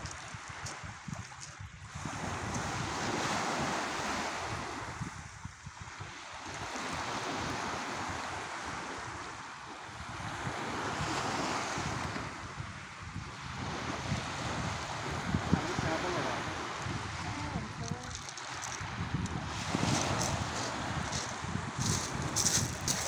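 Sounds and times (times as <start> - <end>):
waves washing on pebble beach: 0.0 - 23.0
wind buffeting microphone: 0.0 - 23.0.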